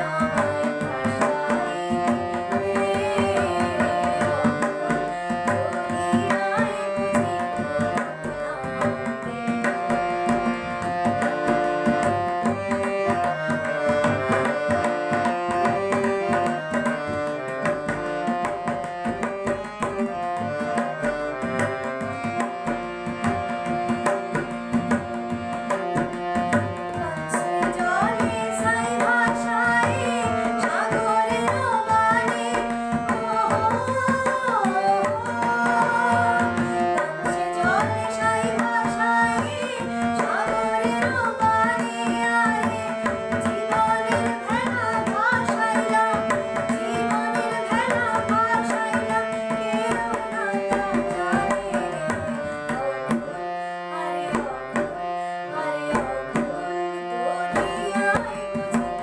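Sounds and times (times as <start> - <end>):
girl singing: 0.0 - 16.4, 26.4 - 59.0
harmonium held notes: 0.0 - 59.0
tabla rhythm: 0.0 - 59.0.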